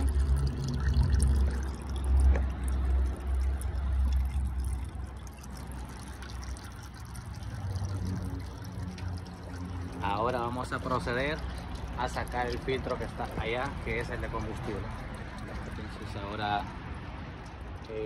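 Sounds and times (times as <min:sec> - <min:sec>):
oil trickling into tub: 0:00.0 - 0:18.0.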